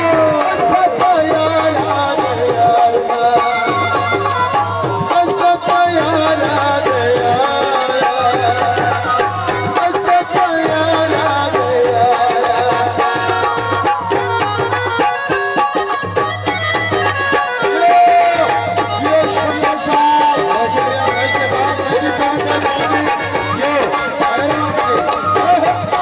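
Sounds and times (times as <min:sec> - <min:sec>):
harmonium melody: 0:00.0 - 0:26.0
tabla drumming: 0:00.0 - 0:26.0.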